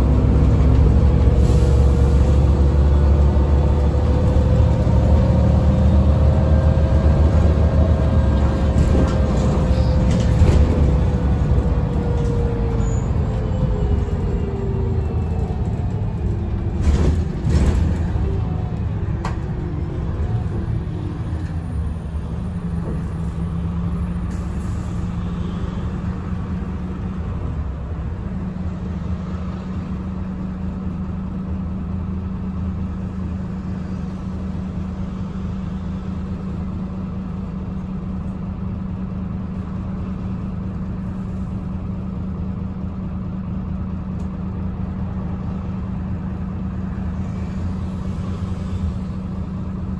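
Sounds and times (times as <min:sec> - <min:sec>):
bus drivetrain hum: 0:00.0 - 0:49.9.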